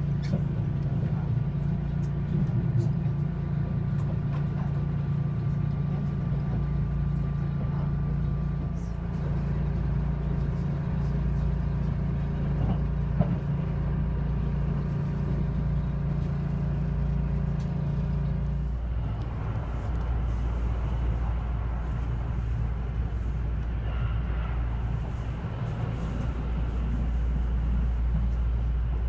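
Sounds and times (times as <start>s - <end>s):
train running inside carriage: 0.0s - 29.0s.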